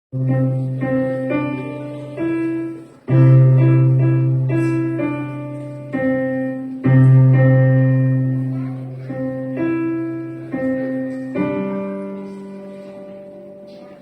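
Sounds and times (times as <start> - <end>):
piano melody with chords: 0.1 - 14.0.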